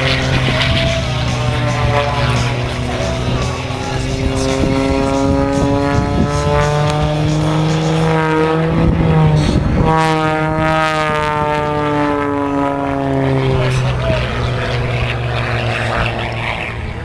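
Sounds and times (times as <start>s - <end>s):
propeller airplane engine: 0.0s - 17.0s.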